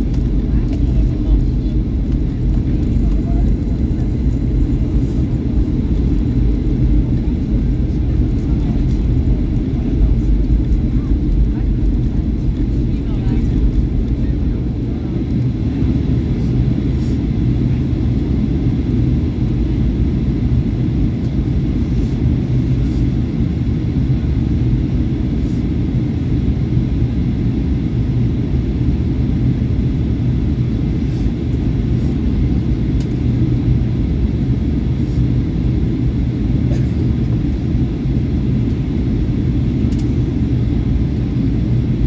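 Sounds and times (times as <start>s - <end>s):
airplane cabin rumble: 0.0s - 42.0s
constant low hum: 0.0s - 42.0s.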